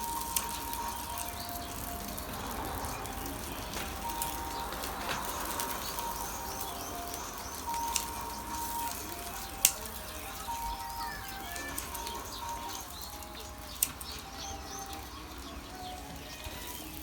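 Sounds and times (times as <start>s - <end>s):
faint tune of held notes: 0.0s - 17.0s
meat sizzling on grill: 0.0s - 17.0s
small high chirps: 0.0s - 17.0s.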